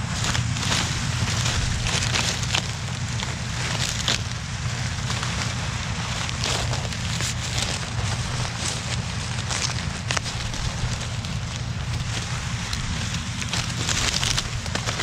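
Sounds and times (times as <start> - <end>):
dry maize stalks crackling: 0.0 - 15.0
tractor engine droning: 0.0 - 15.0.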